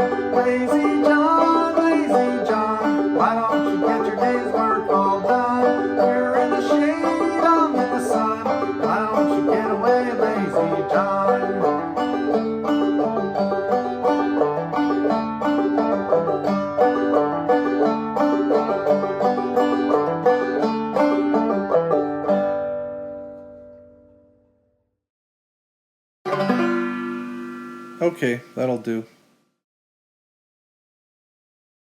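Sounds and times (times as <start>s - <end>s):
banjo plucked clawhammer style: 0.0s - 24.0s, 26.3s - 29.0s.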